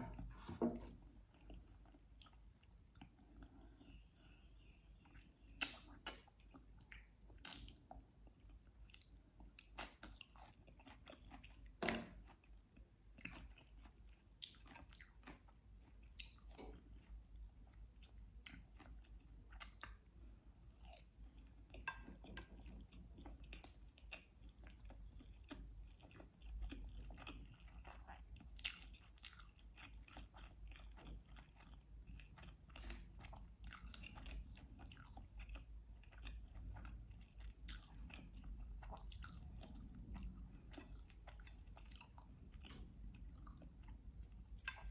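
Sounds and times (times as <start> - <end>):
soft chewing and biting: 0.0 - 44.9.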